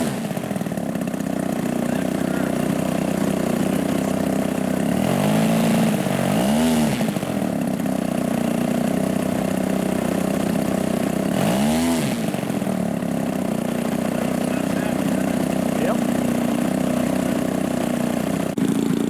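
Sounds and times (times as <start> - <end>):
model airplane engine idling and revving: 0.0 - 19.0.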